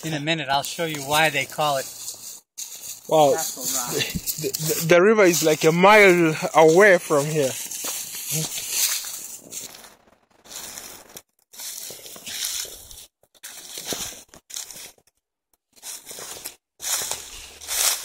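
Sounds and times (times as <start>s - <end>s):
footsteps crunching through dry leaves: 0.0s - 15.1s, 15.7s - 18.0s.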